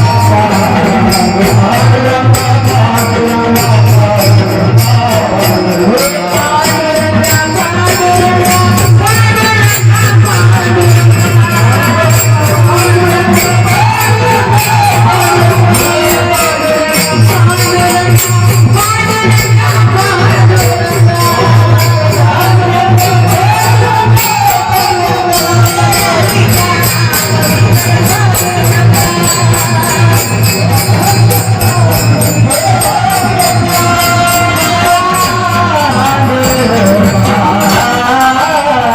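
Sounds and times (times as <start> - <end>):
jingling percussion rhythm: 0.0 - 38.9
person singing melodic vocal line: 0.0 - 38.9.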